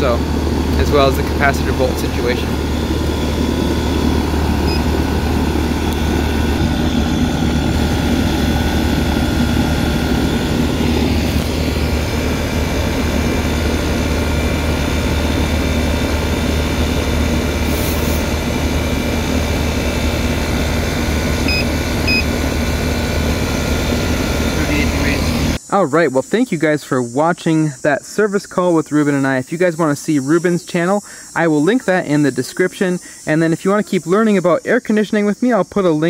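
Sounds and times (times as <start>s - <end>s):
air conditioner humming: 0.0s - 35.9s.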